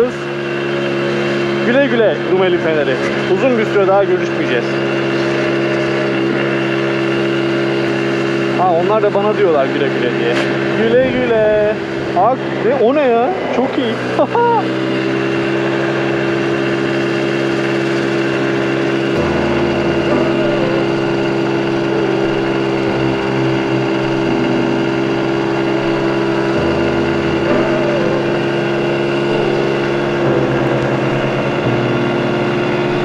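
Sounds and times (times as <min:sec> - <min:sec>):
scooter engine running: 0:00.0 - 0:33.0.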